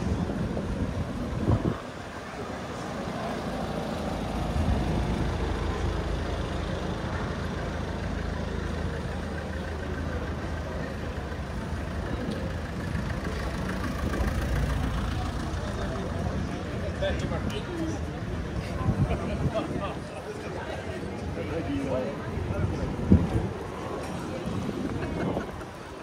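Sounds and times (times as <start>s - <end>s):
large engine idling: 0.0s - 26.0s.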